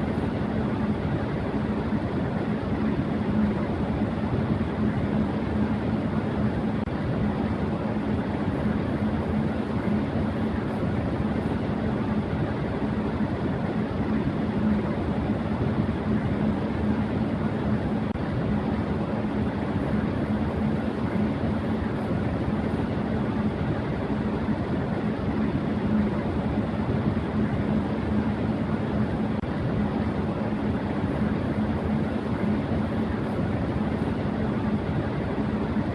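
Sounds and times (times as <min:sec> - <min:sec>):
electric fan running: 0:00.0 - 0:35.9
low hum: 0:00.0 - 0:35.9.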